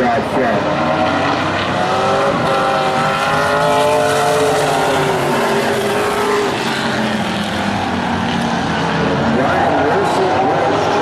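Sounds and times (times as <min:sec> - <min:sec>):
race car engines passing: 0:00.0 - 0:11.0.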